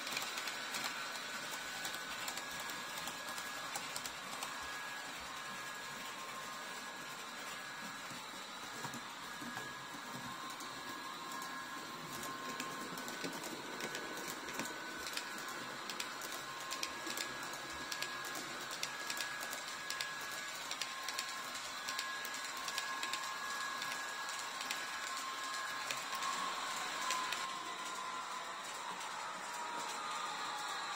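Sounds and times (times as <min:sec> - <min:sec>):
model train motor whine: 0:00.0 - 0:08.1, 0:08.8 - 0:30.9.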